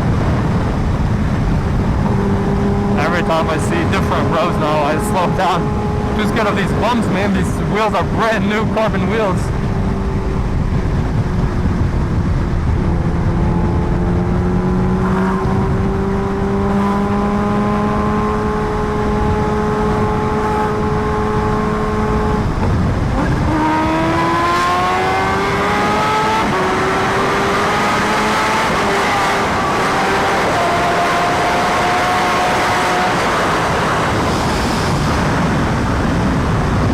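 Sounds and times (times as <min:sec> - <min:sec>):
motorcycle engine accelerating: 0:00.0 - 0:36.9
wind noise: 0:00.0 - 0:36.9.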